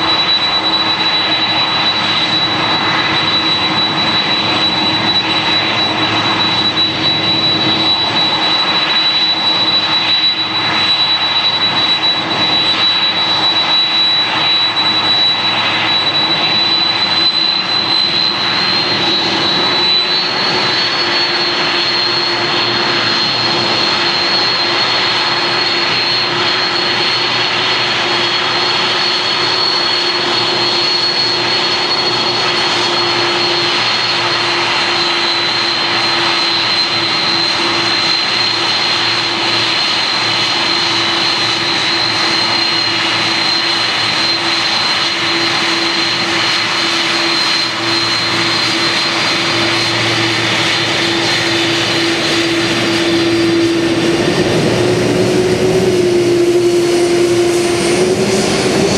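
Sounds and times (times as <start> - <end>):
high-pitched engine whine: 0.0 - 58.9
jet engines running: 0.0 - 58.9.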